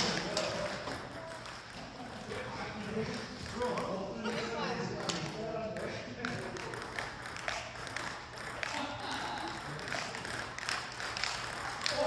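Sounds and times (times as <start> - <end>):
badminton shuttlecock taps: 0.0 - 12.0.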